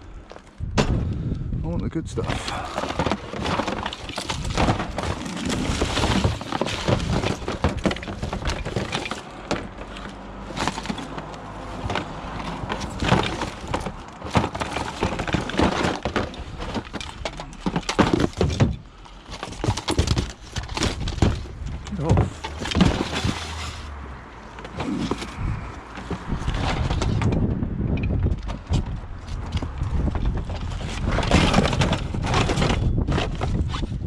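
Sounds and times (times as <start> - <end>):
scrap clattering knocks and cracks: 2.2 - 34.0.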